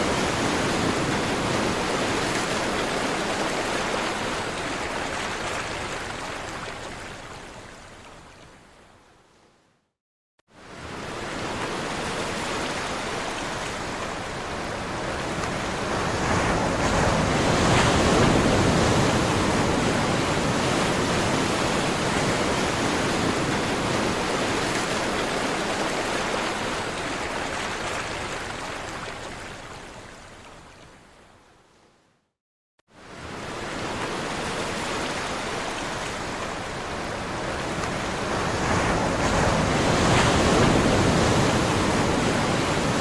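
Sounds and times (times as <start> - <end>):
sea surf washing ashore: 0.0 - 6.7, 10.6 - 29.2, 33.0 - 43.0.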